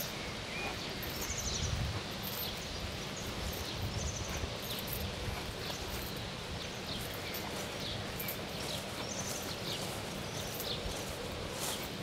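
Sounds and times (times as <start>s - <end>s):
birds chirping: 0.0s - 12.0s
footsteps through grass: 0.0s - 12.0s
outdoor background noise: 0.0s - 12.0s.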